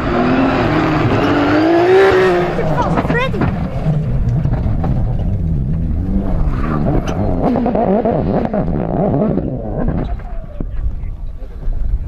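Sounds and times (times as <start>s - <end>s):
rally car engine revving: 0.0s - 11.8s.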